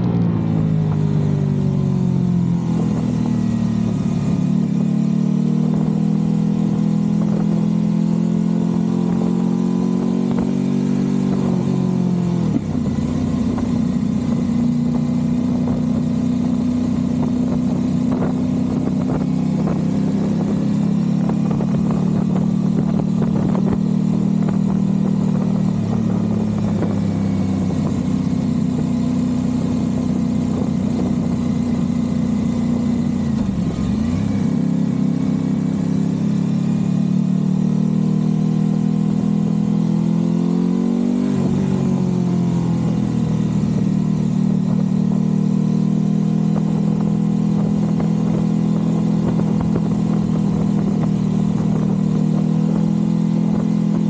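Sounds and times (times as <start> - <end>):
motorcycle engine at light throttle: 0.0 - 54.0.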